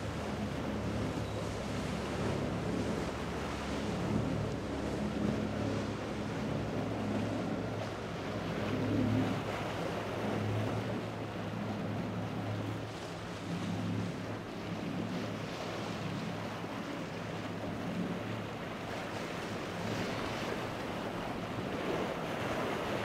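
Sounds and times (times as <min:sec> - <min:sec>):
boat engine hum: 0:00.0 - 0:23.0
waves and spray off hull: 0:00.0 - 0:23.0.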